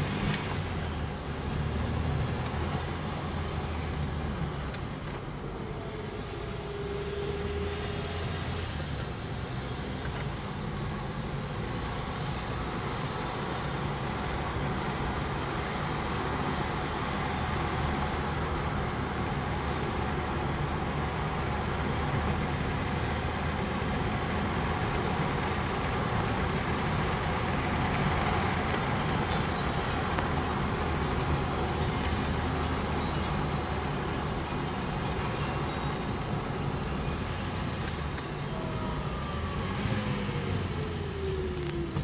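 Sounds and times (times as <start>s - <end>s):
tyre and road noise: 0.0s - 42.0s.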